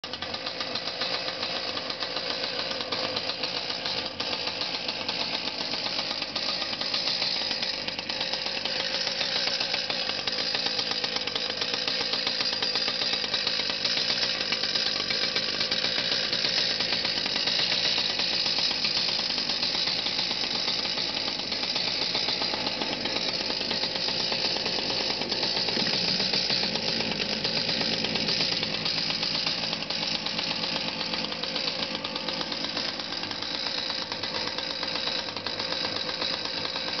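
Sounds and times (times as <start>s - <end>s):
two-stroke engine buzzing: 0.0s - 37.0s.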